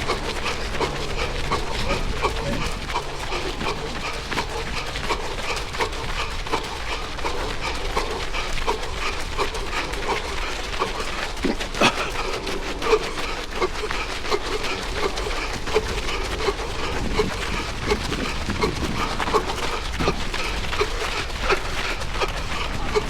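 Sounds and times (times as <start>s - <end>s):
runner breathing heavily: 0.0s - 23.0s.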